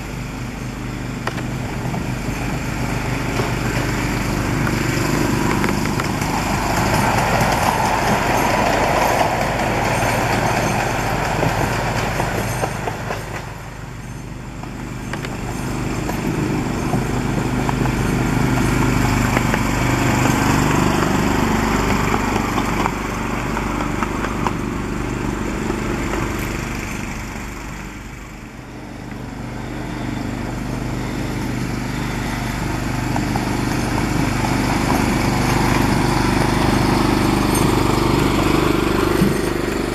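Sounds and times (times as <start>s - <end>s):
miniature locomotive engine running: 0.0s - 39.9s.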